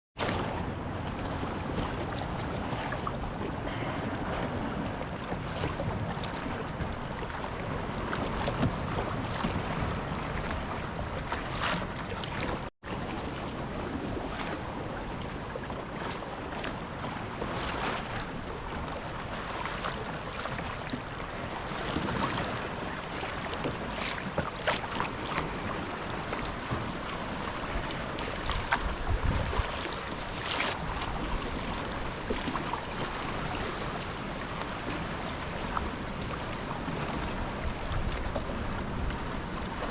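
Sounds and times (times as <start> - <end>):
wind buffeting microphone: 0.2 - 23.6, 25.5 - 39.9
paddle splashes: 0.2 - 39.9
water lapping around kayak: 0.2 - 39.9.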